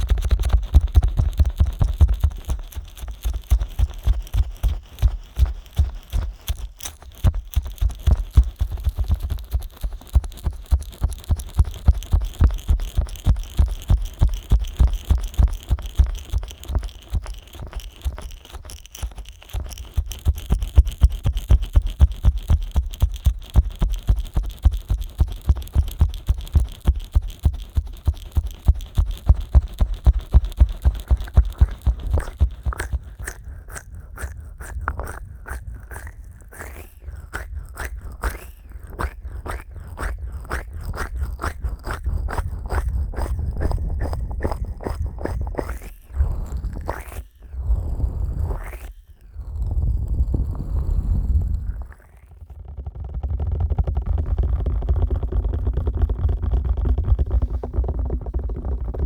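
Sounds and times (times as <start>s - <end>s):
fingers rubbing microphone: 0.0s - 59.0s.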